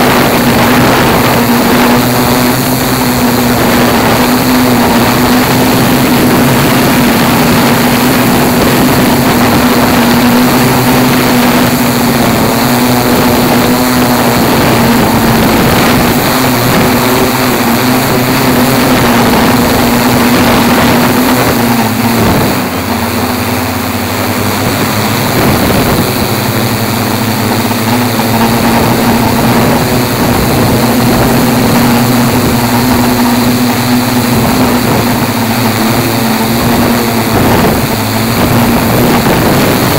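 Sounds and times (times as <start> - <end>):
drone motors hovering: 0.0 - 39.9.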